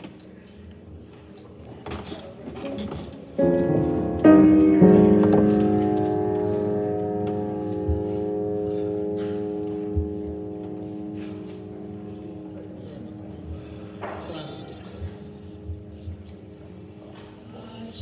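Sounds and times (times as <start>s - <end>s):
keyboard chords: 0.0s - 1.4s, 2.6s - 18.0s.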